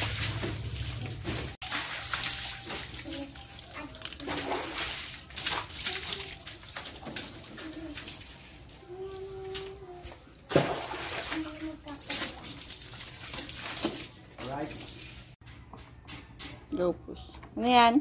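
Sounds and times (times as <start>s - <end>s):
water running and splashing: 0.0s - 9.8s, 10.5s - 15.4s.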